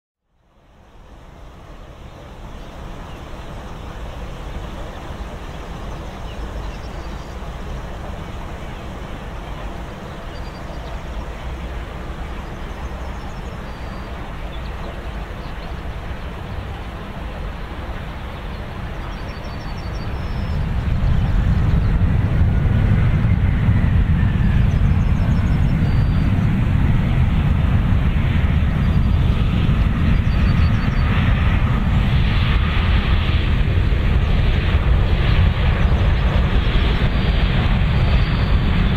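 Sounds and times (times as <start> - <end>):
jet engines deep rushing: 0.4 - 38.9.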